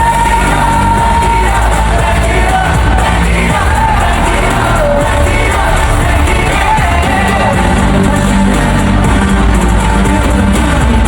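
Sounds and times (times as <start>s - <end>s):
person singing live: 0.0s - 11.0s
pop backing track with heavy bass: 0.0s - 11.0s.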